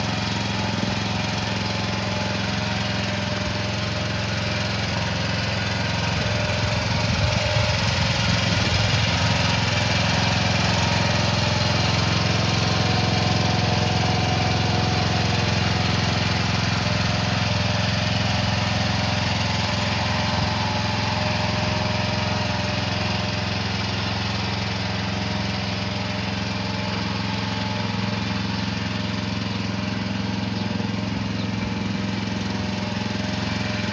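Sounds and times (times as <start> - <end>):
mini excavator engine running: 0.0 - 33.9.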